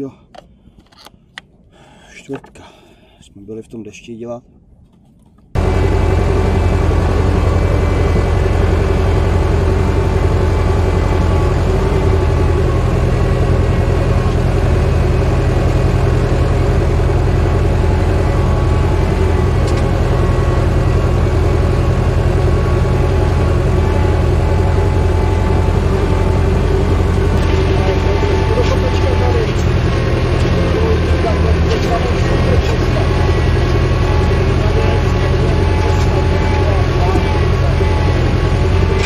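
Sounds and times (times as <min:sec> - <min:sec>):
tractor diesel engine running: 0:05.4 - 0:39.0.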